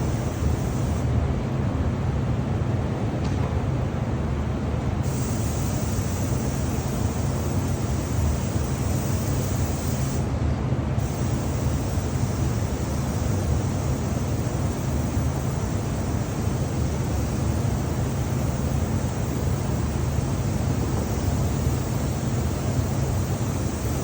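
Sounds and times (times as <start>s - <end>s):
spray gun air hiss: 0.0s - 1.0s, 5.0s - 10.4s, 11.0s - 24.0s.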